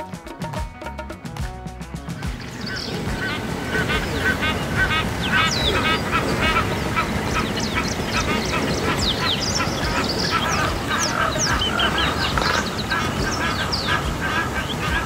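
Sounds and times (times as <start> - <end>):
birds calling: 2.1 - 15.0.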